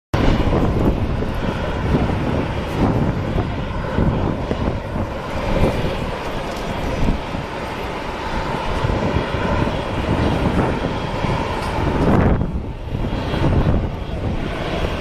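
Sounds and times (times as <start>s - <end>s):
jet engines rumbling: 0.2s - 15.0s.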